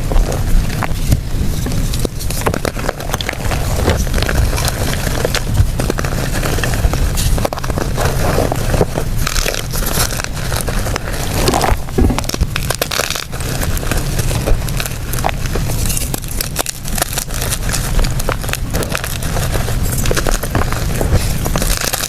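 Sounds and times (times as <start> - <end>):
chalk being crushed by hand: 0.0 - 22.0.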